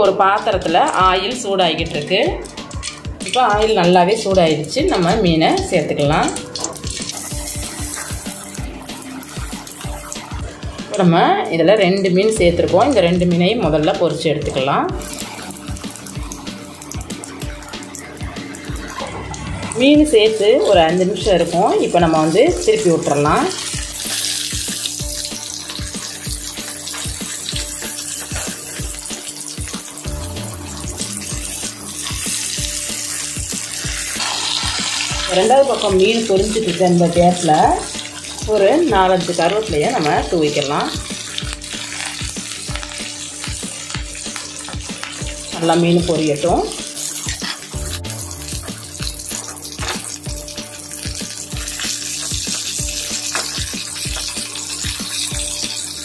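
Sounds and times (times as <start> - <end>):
fish sizzling in hot oil: 0.0 - 56.0
background music with beat: 0.5 - 11.1, 12.3 - 36.7, 37.7 - 56.0.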